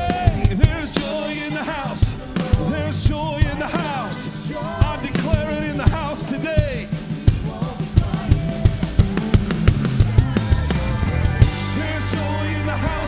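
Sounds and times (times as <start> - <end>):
drum kit beat: 0.0 - 13.0
live band playing upbeat song: 0.0 - 13.0
person singing: 0.0 - 13.0.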